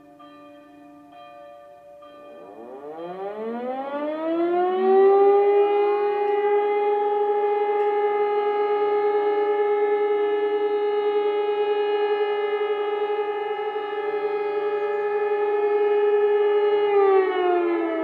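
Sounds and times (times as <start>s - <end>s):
civil defence siren: 0.0s - 18.0s.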